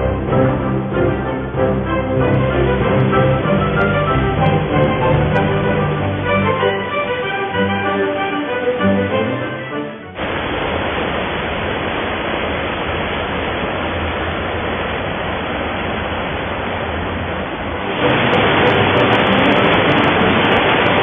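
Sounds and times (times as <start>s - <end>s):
rapids rushing: 0.0s - 21.0s.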